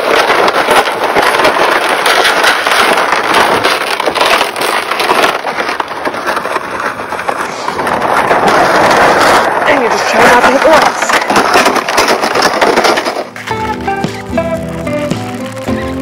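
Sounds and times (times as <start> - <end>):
sleds scraping on icy snow: 0.0 - 16.0.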